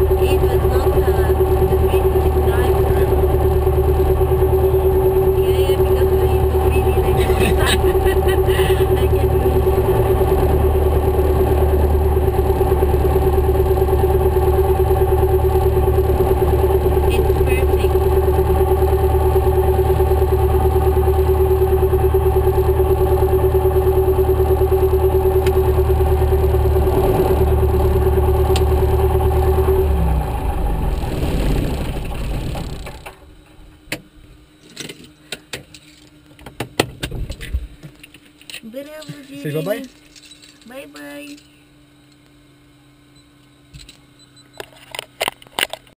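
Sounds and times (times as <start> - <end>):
propeller aircraft engine droning: 0.0 - 45.9.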